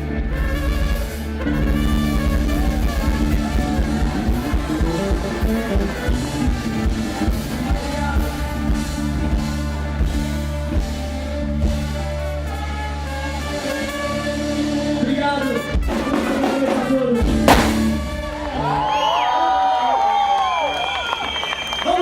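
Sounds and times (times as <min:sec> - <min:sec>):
live band playing: 0:00.0 - 0:19.2.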